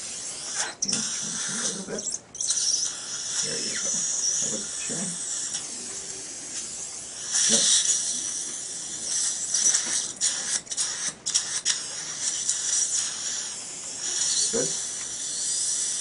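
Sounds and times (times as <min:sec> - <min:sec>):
dental drill boring: 0:00.0 - 0:16.0
suction hiss: 0:00.0 - 0:16.0.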